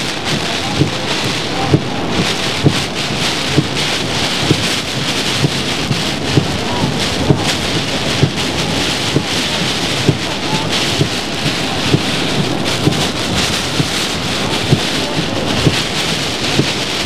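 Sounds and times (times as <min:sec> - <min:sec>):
gusting wind: 0:00.0 - 0:17.0
heavy rain on windshield: 0:00.0 - 0:17.0
windshield wiper knocking: 0:00.1 - 0:17.0.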